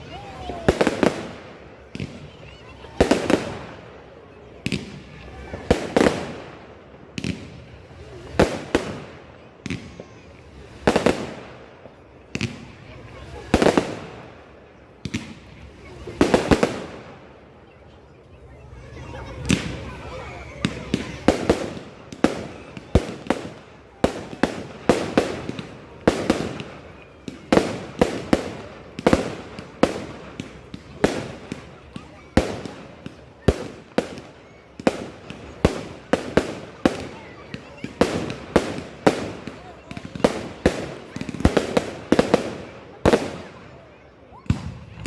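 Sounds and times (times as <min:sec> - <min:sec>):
fireworks bangs: 0:00.0 - 0:17.6, 0:18.6 - 0:45.0.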